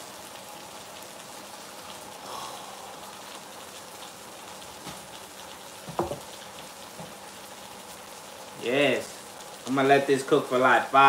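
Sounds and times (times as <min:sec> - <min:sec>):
chicken sizzling in skillet: 0:00.0 - 0:11.0.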